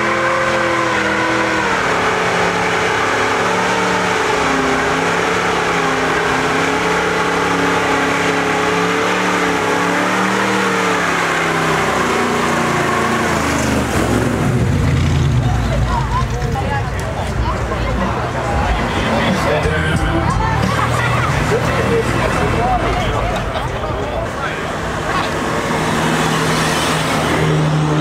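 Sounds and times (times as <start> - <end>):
car engine revving high: 0.0 - 16.0, 18.1 - 28.0
tyres spinning on asphalt: 0.0 - 28.0.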